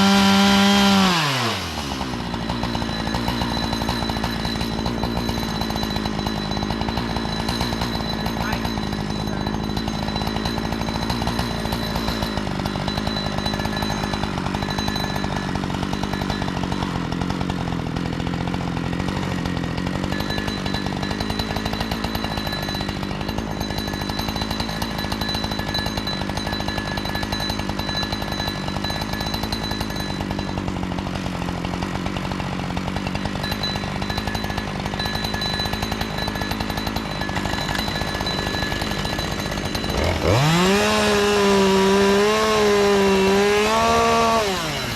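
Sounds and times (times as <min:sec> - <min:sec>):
chainsaw cutting through log: 0:00.0 - 0:44.9.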